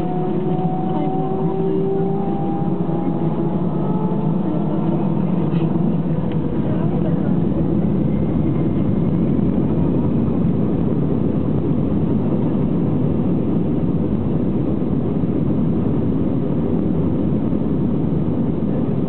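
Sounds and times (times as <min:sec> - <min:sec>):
jet engines idling rumble: 0:00.0 - 0:19.0.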